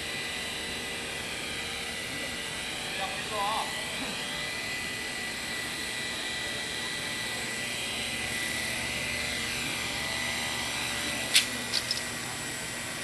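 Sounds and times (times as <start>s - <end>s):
model helicopter high whine: 0.0s - 13.0s.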